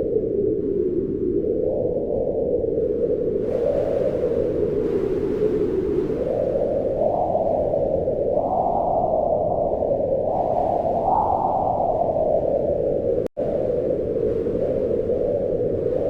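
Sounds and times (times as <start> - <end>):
howling wind gusts: 0.0 - 16.0.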